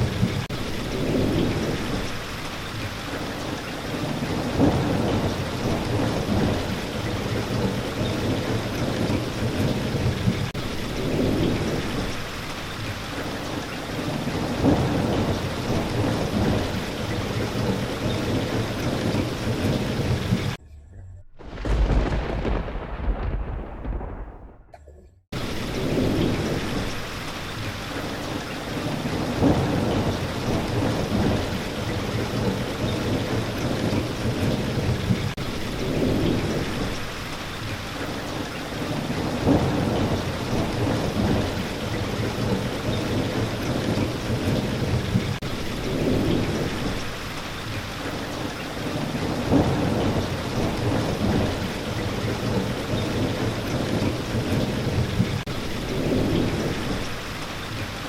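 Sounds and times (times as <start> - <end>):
heavy rain hiss: 0.0 - 20.6, 21.4 - 24.5, 25.4 - 58.0
low rolling thunder: 0.0 - 20.6, 21.4 - 58.0.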